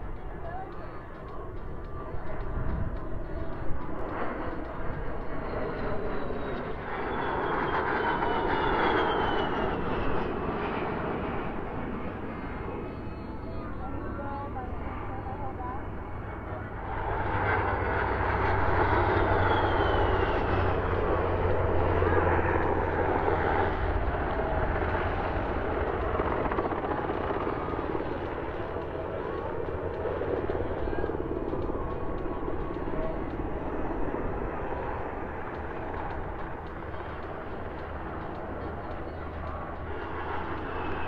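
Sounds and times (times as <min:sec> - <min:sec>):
military aircraft flying past: 0:00.0 - 0:41.0.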